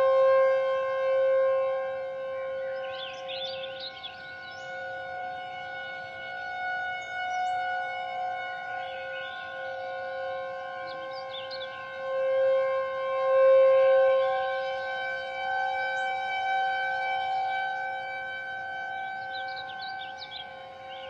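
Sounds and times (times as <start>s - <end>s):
outdoor warning siren steady tone: 0.0s - 21.0s.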